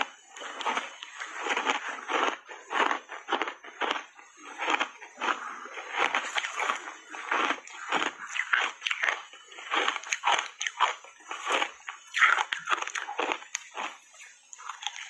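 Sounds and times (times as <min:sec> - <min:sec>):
ice crunching while chewed: 0:00.0 - 0:15.0.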